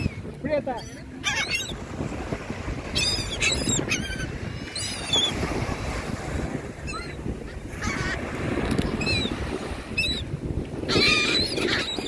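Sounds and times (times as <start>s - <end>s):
gulls calling: 0.0s - 6.0s, 6.7s - 12.0s
wind rumble on microphone: 0.0s - 12.0s.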